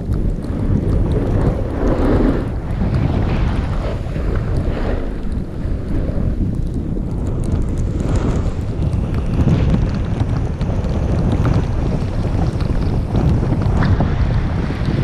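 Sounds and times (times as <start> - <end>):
snowboard sliding over snow: 0.0 - 15.0
wind buffeting microphone: 0.0 - 15.0.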